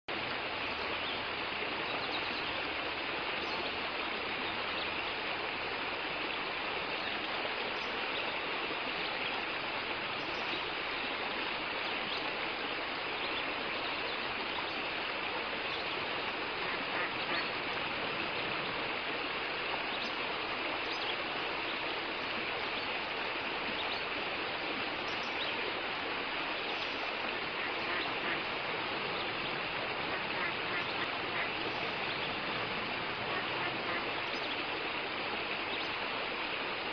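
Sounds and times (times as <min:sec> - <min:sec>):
steady outdoor rushing noise: 0:00.1 - 0:36.9.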